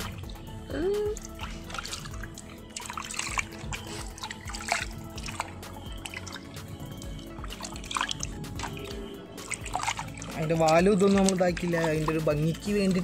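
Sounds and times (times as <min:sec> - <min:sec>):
background music: 0:00.0 - 0:13.0
water dripping: 0:00.0 - 0:13.0
water splashing in a metal bowl: 0:00.0 - 0:13.0.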